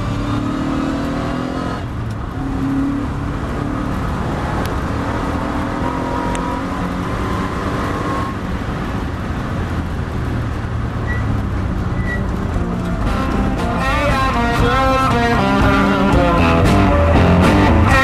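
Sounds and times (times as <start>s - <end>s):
race car engine: 0.0s - 18.0s
road and wind noise: 0.0s - 18.0s.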